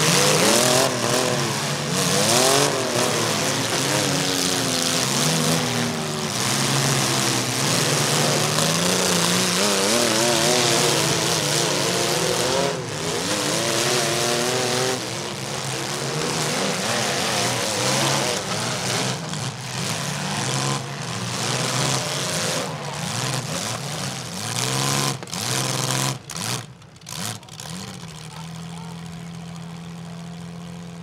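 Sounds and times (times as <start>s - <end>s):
car engines revving: 0.0s - 31.0s
exhaust roar: 0.0s - 31.0s.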